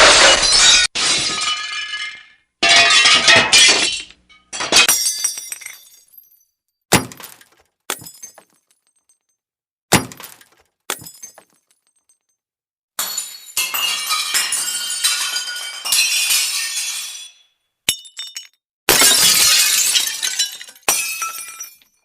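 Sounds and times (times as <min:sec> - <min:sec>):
glass smashing: 0:00.0 - 0:09.2, 0:09.9 - 0:12.3, 0:13.0 - 0:22.0.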